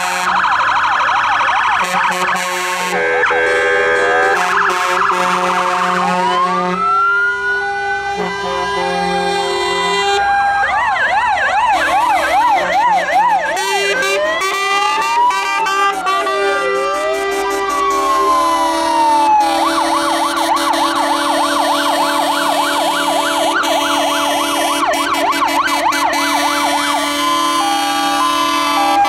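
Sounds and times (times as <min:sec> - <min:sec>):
fire engine sirens: 0:00.0 - 0:29.0.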